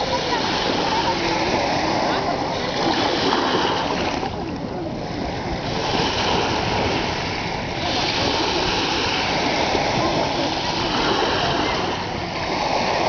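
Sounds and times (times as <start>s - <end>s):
small waves washing onto beach: 0.0s - 13.0s.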